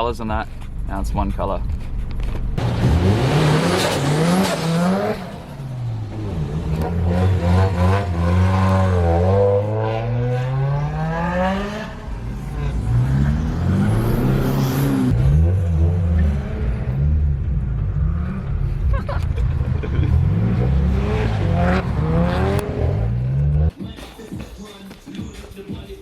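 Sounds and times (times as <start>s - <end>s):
car engine revving: 2.6s - 23.7s.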